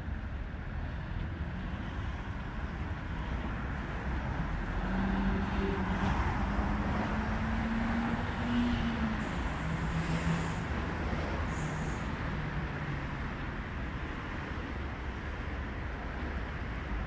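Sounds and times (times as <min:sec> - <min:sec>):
road traffic noise: 0:00.0 - 0:17.0
passing vehicle engine hum: 0:00.9 - 0:14.6.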